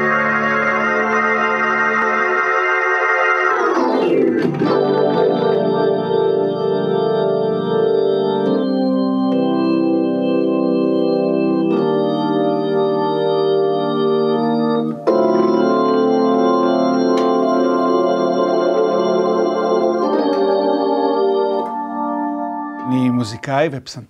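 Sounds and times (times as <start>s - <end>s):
organ chords through rotating speaker: 0.0s - 23.4s.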